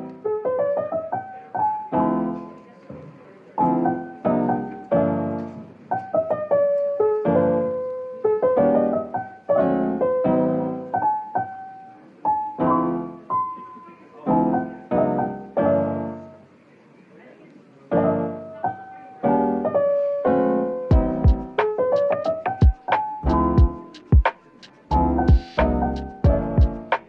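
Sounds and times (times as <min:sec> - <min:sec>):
piano music: 0:00.0 - 0:16.5, 0:17.9 - 0:27.0.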